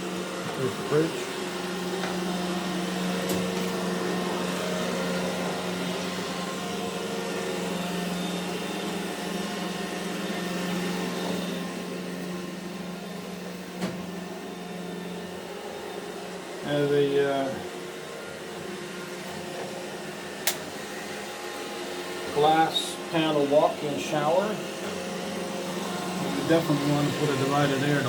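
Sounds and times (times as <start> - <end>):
robot vacuum motor and brush hum: 0.0 - 28.0.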